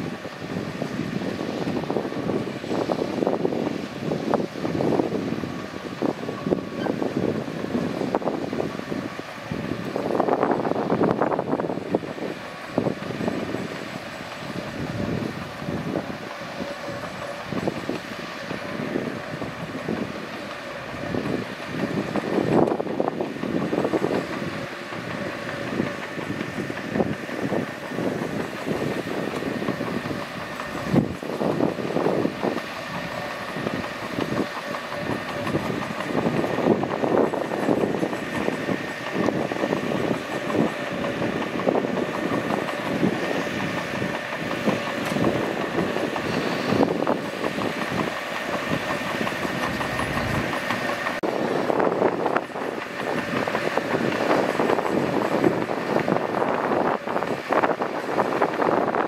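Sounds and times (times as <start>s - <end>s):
bulldozer diesel engine running: 0.0s - 59.0s
steel tracks clanking: 0.0s - 59.0s.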